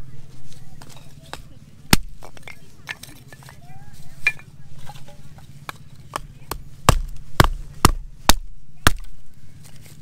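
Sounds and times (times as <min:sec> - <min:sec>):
hatchet chopping firewood: 0:00.8 - 0:03.5, 0:04.2 - 0:10.0.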